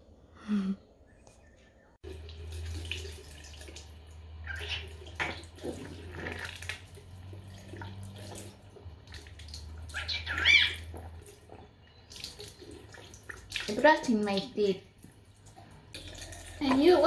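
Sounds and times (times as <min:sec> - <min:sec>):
running water: 0:02.0 - 0:17.0.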